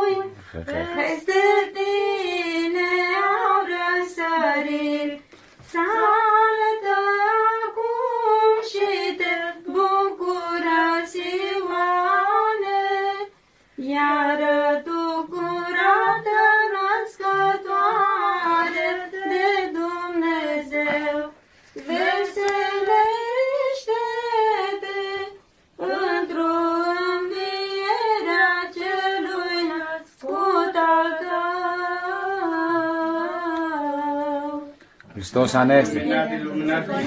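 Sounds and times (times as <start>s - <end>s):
woman singing unaccompanied chant: 0.0s - 34.8s, 35.8s - 37.0s.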